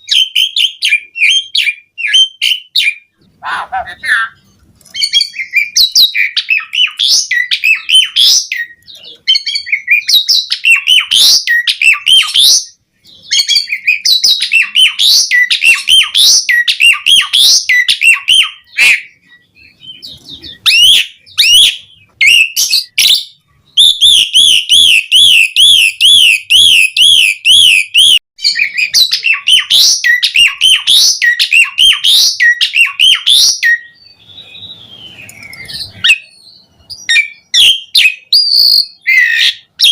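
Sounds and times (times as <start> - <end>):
bird whistled trill: 0.0 - 3.1, 5.0 - 39.9
starling singing: 0.0 - 39.9.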